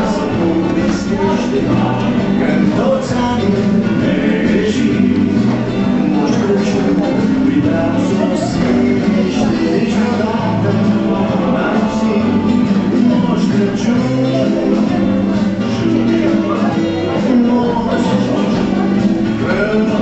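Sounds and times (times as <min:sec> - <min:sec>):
music with singing: 0:00.0 - 0:20.0.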